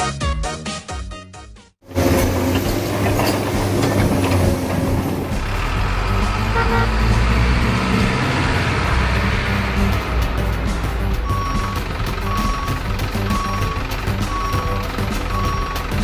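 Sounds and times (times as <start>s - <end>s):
truck engine rumble: 1.8s - 16.0s.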